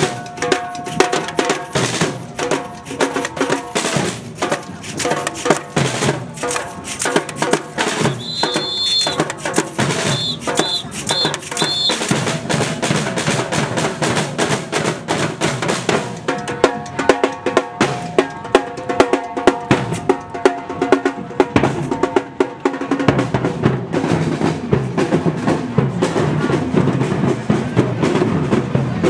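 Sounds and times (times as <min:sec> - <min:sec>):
marching snare and bass drums: 0:00.0 - 0:29.0.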